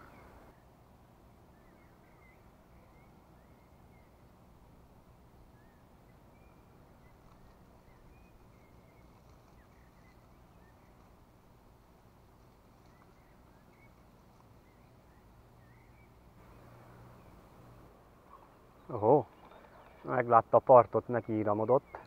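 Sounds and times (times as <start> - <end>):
outdoor background noise: 0.0 - 22.0
bird chirps: 1.5 - 4.3, 5.5 - 11.2, 12.6 - 22.0.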